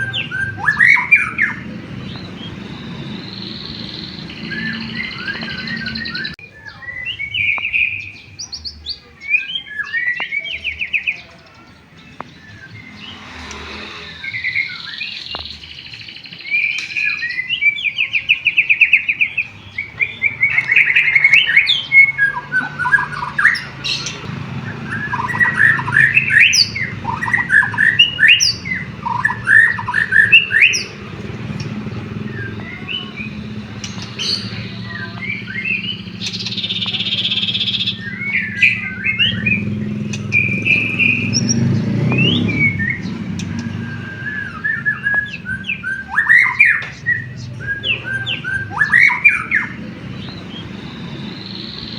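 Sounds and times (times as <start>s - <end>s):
songbird singing whistles and trills: 0.0s - 51.9s.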